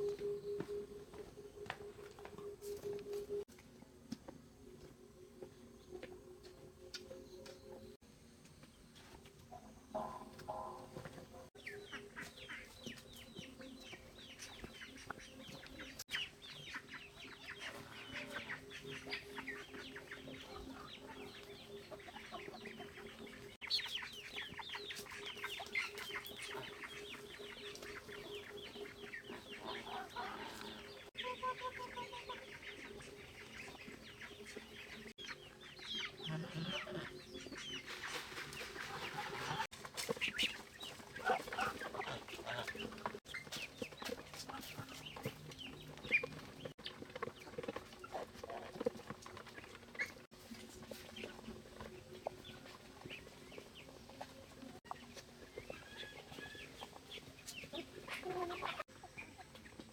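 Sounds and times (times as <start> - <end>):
chickens clucking: 9.4 - 59.9.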